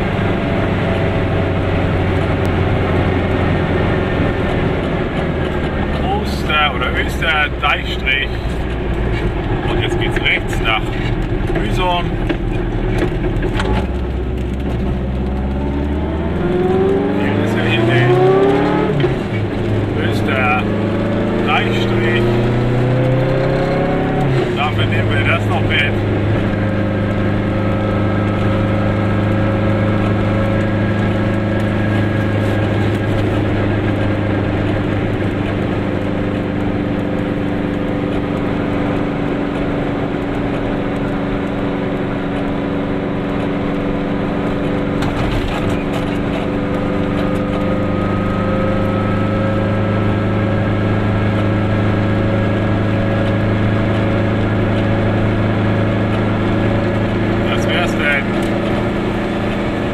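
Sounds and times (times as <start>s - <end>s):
road noise: 0.0s - 59.9s
two-stroke car engine running: 0.0s - 59.9s.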